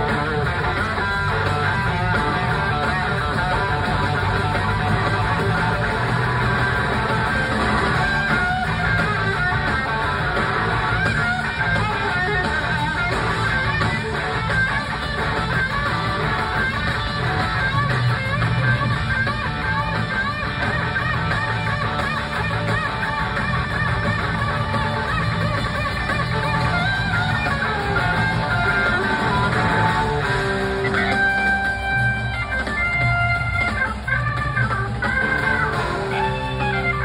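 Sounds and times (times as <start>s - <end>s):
electric guitar with bending notes: 0.0s - 37.0s
live rock band playing: 0.0s - 37.0s.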